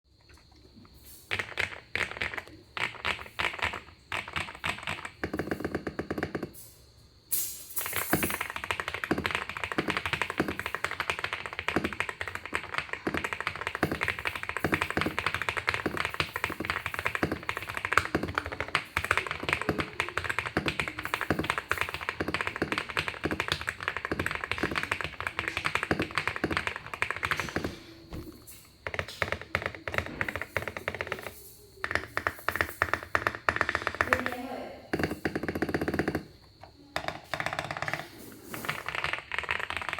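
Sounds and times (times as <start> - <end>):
typing on mechanical keyboard: 0.3 - 6.6, 7.8 - 39.9.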